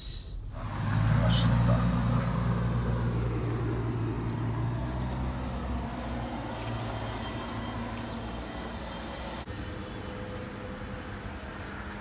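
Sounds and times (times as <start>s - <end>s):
vehicle engine humming: 0.4s - 12.0s.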